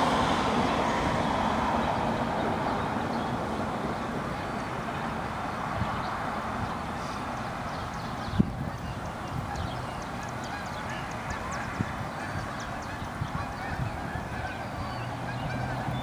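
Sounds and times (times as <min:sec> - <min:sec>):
chorus of birds chirping: 0:00.6 - 0:16.0.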